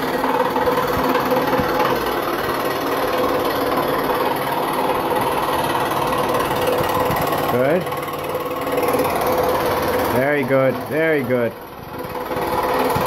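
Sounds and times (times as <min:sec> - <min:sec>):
scroll saw cutting wood: 0:00.0 - 0:13.0.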